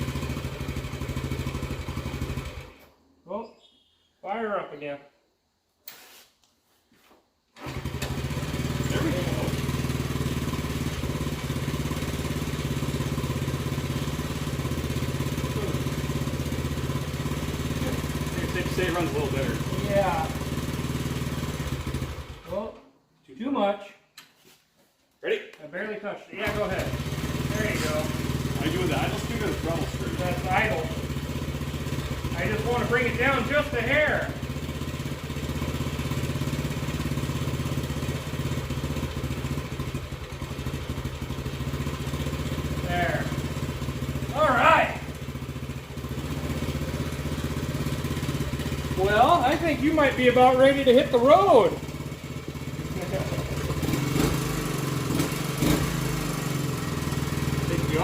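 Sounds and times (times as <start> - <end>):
small engine idling: 0.0 - 3.1, 7.6 - 22.6, 26.4 - 58.0.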